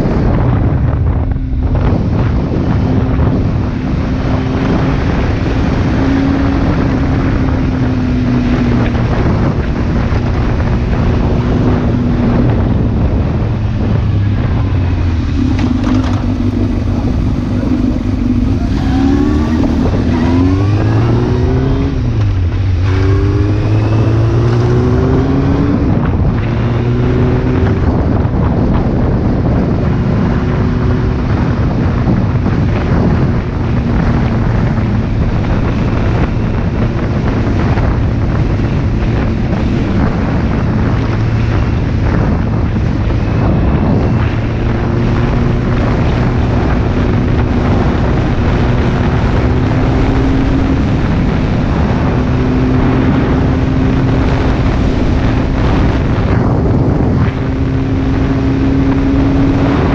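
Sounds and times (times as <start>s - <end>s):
motorcycle engine accelerating: 0.0s - 59.9s
wind buffeting microphone: 0.0s - 59.9s.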